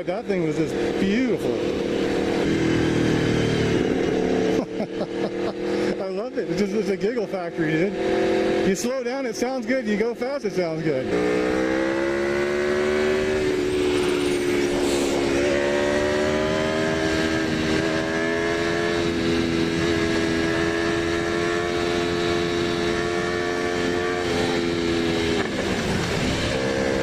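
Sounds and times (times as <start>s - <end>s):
motorcycle engine cruising: 0.0s - 27.0s.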